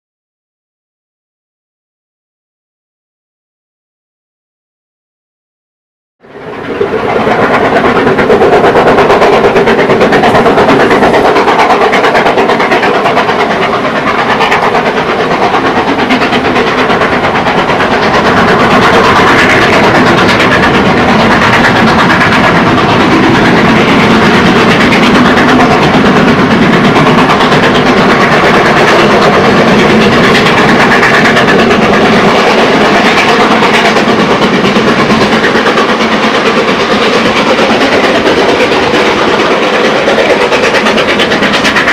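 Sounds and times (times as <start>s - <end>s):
steam locomotive exhaust beats: 6.2s - 41.9s.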